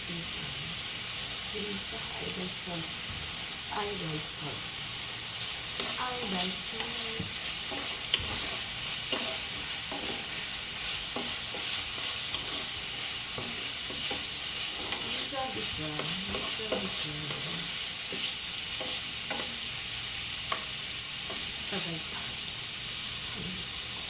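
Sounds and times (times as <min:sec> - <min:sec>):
meat sizzling in a pan: 0:00.0 - 0:24.0.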